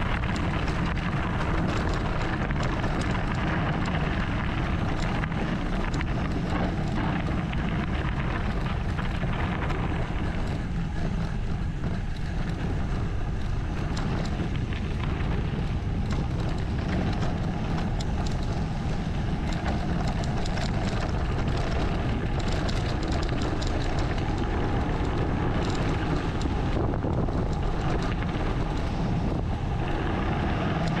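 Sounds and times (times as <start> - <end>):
bike rattling clicks: 0.0 - 31.0
wind rumbling on microphone: 0.0 - 31.0.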